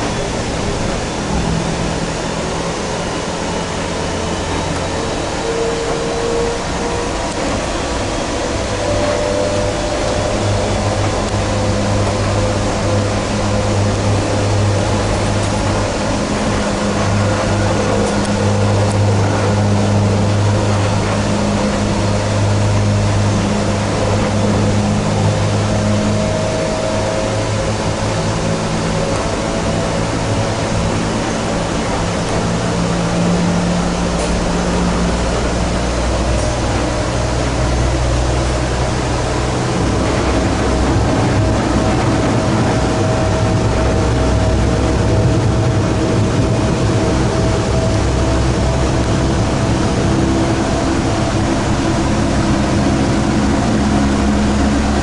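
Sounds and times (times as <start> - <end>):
low hum: 0.0 - 55.0
rail car rumble and hiss: 0.0 - 55.0
steady high tone: 0.0 - 55.0.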